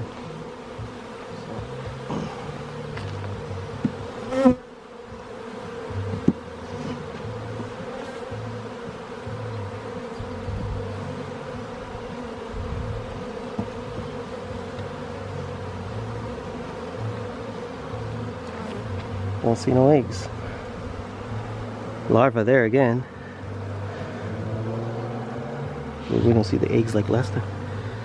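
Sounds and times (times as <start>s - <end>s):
honeybees buzzing: 0.0s - 28.0s.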